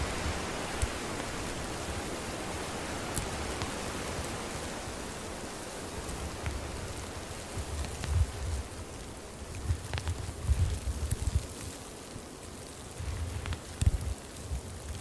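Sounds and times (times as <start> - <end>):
campfire hissing: 0.0 - 15.0
fire crackling pops: 0.1 - 15.0.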